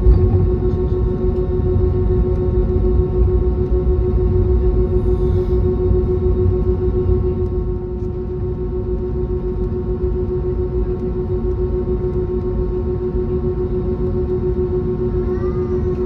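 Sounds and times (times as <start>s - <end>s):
aircraft engines idling drone: 0.0s - 16.0s.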